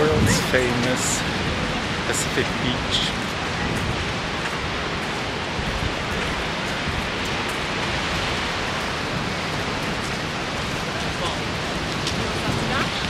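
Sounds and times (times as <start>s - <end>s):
ocean surf: 0.0s - 13.0s
sea wind: 0.0s - 13.0s.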